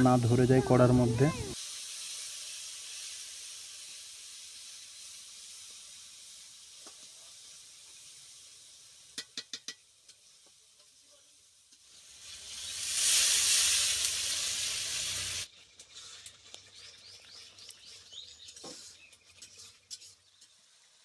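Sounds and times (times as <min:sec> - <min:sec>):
spices sizzling in oil: 0:00.0 - 0:21.0.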